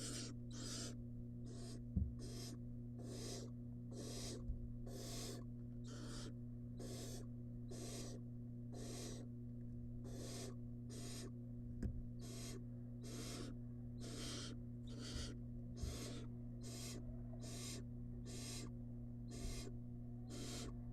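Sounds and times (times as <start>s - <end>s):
owl chick rasping hisses: 0.0s - 9.3s, 10.0s - 11.4s, 12.2s - 20.9s
electrical hum: 0.0s - 20.9s.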